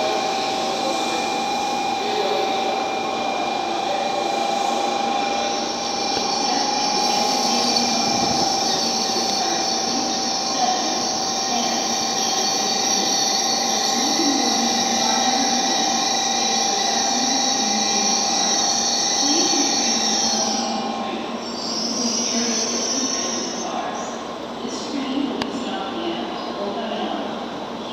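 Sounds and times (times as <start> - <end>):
high-pitched tone: 0.0 - 23.6
train electrical whine and hum: 0.0 - 27.9.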